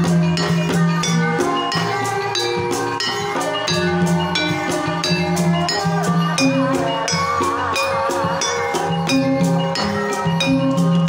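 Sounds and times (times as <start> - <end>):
bronze metallophones and gongs ringing: 0.0 - 11.0
gamelan music: 0.0 - 11.0.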